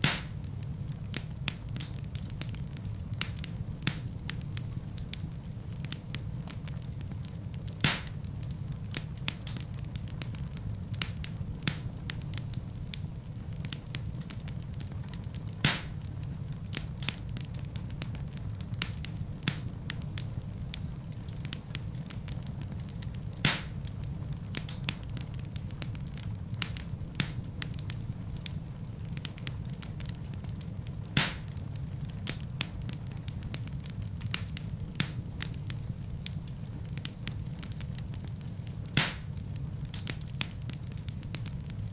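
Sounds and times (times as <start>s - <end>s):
fire popping: 0.0s - 41.9s
wood fire crackling: 0.0s - 41.9s.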